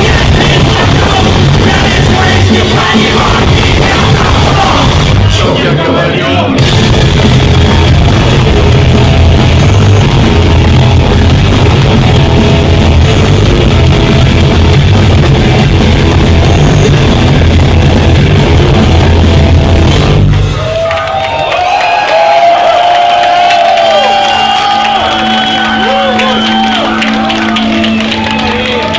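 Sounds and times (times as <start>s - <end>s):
rock band playing live: 0.0s - 20.8s, 24.5s - 28.9s
crowd shouting and cheering: 0.0s - 28.9s.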